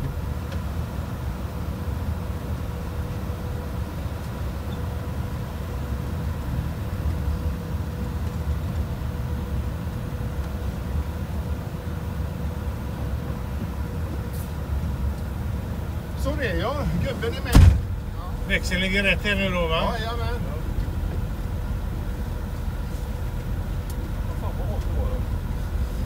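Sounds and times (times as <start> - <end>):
faint steady whine: 0.0 - 26.0
train rumbling: 0.0 - 26.0.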